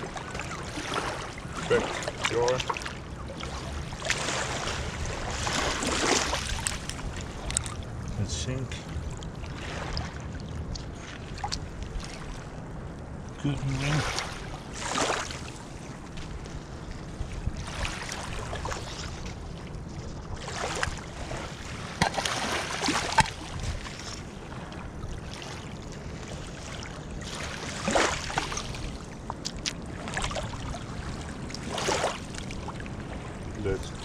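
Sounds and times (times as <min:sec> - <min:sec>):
small waves washing: 0:00.0 - 0:34.0
wind rumble on microphone: 0:00.0 - 0:34.0.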